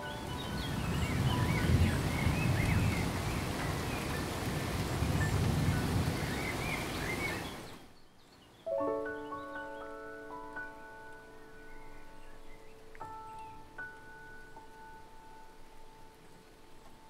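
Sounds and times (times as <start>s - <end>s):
rain pattering into a puddle: 0.0s - 8.0s, 11.0s - 17.0s.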